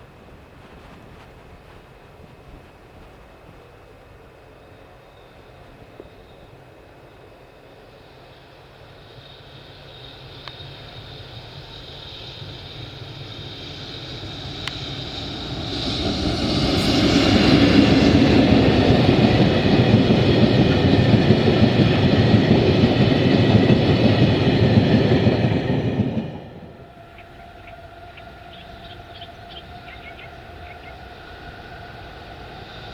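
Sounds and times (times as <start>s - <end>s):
freight train passing on rails: 0.0s - 32.9s.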